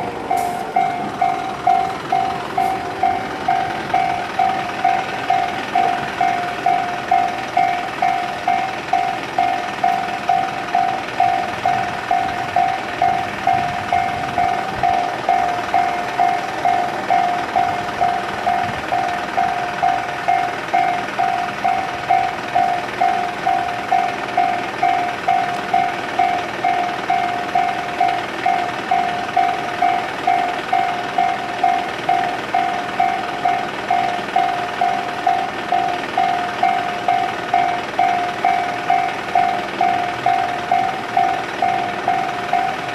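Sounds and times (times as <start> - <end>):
electronic level-crossing alarm: 0.0 - 42.9.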